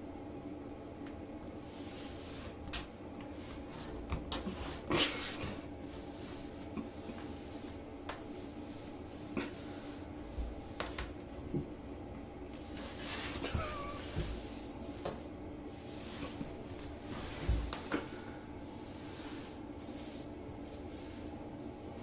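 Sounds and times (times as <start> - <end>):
steady low hum: 0.0 - 22.0
rubbing sounds: 1.6 - 11.3, 12.6 - 18.0, 18.7 - 21.4.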